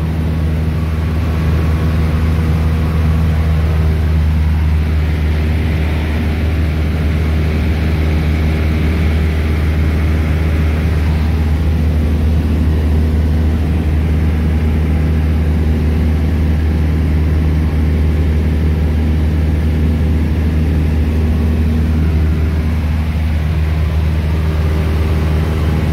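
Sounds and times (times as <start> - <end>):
aircraft engine and propeller droning: 0.0 - 25.9.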